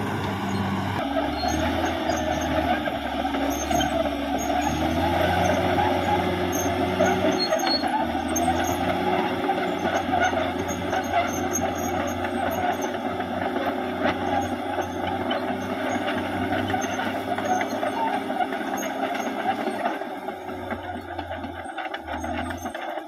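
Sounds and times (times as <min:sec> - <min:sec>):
bulldozer diesel engine running: 0:00.0 - 0:23.0
track squeaks and clinks: 0:00.0 - 0:23.0.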